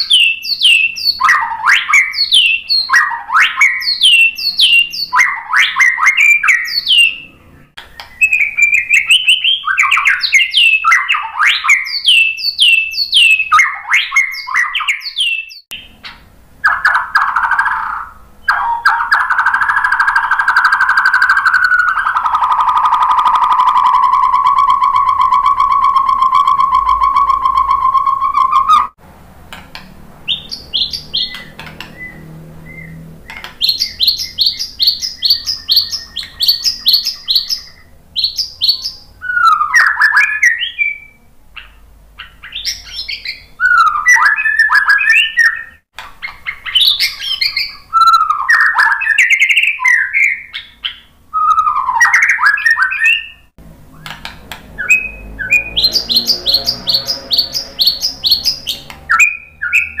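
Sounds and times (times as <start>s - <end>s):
bird singing: 0.0s - 29.0s, 29.8s - 60.0s.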